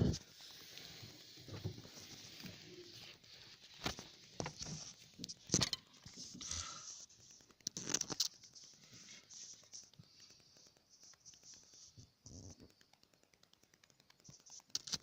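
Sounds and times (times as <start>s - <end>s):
rustling and scraping: 0.0s - 12.8s.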